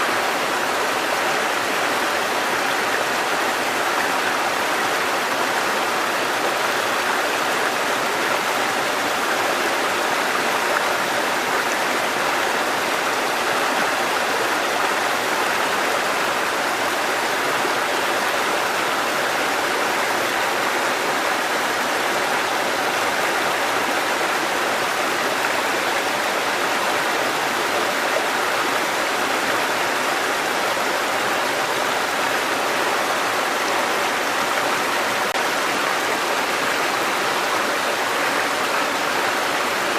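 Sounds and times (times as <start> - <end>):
stream water cascading over rocks: 0.0 - 39.9.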